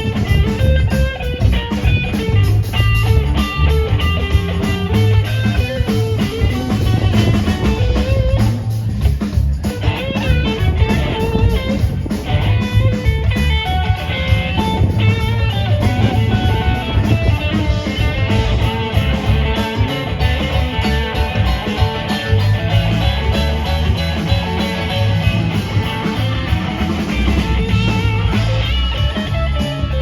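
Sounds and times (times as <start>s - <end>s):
bass guitar: 0.0s - 30.0s
drum kit: 0.0s - 30.0s
electric guitars: 0.0s - 30.0s.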